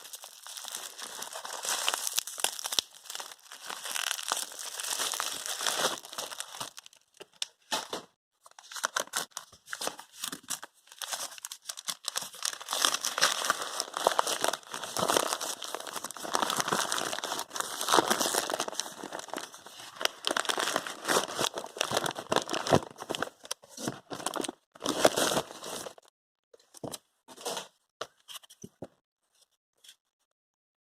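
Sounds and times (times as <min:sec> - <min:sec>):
packaging crinkling and tearing: 0:00.0 - 0:07.8, 0:08.5 - 0:26.0.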